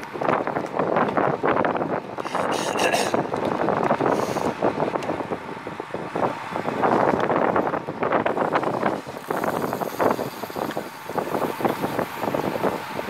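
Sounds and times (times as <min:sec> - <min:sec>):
tyres humming on road: 0:00.0 - 0:13.0
wind buffeting microphone: 0:00.0 - 0:13.0.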